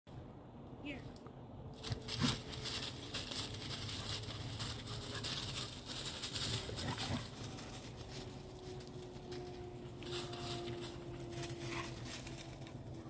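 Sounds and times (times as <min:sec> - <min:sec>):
leaves rustling and crunching: 0:01.8 - 0:13.0.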